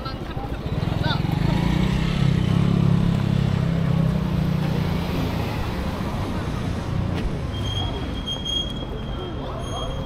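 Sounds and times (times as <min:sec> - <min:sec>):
street traffic noise: 0:00.0 - 0:10.0.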